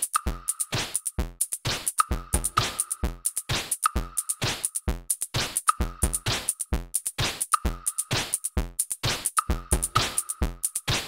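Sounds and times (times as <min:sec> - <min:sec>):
kick drum and hi-hats: 0:00.0 - 0:11.0.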